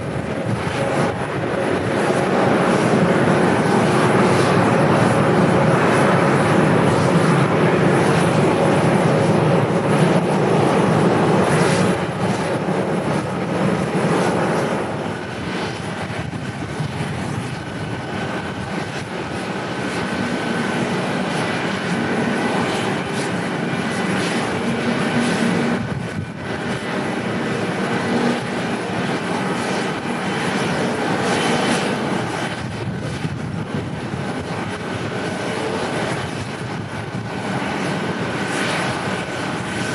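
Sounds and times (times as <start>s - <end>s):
airliner engines landing: 0.0s - 39.9s.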